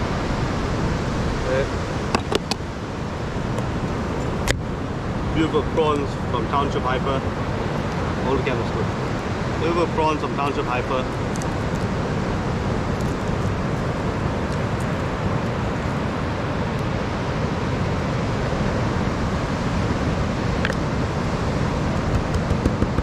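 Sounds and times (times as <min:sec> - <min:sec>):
surf on a beach: 0:00.0 - 0:23.0
wind rumbling on microphone: 0:00.0 - 0:23.0.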